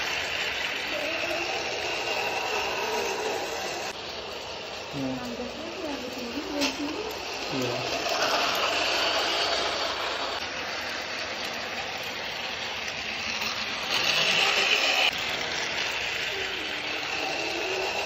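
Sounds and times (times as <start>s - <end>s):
toy train motor whirring: 0.0s - 18.0s
wheels rattling over rail joints: 0.0s - 18.0s.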